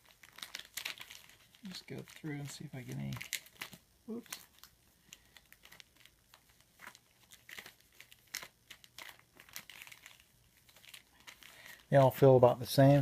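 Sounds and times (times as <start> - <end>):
card packs crinkling: 0.0 - 13.0.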